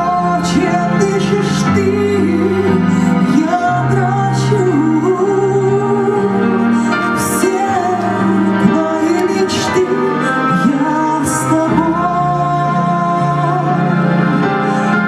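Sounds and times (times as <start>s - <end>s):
instrumental accompaniment with bass: 0.0s - 15.0s
woman singing: 0.0s - 15.0s.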